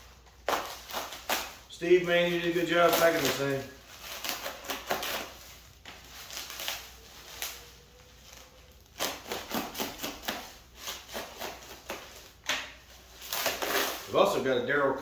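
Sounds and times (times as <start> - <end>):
packing material rustling: 0.0 - 15.0.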